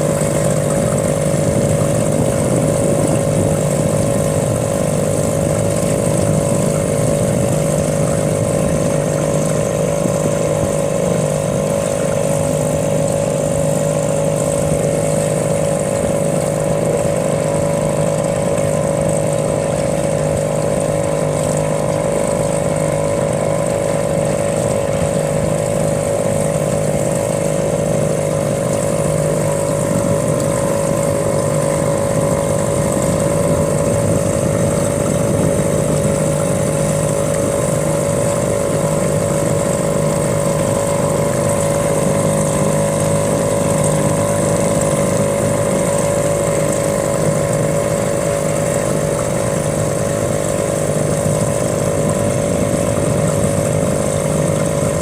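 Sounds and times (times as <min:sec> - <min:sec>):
motor droning steadily: 0:00.0 - 0:55.0.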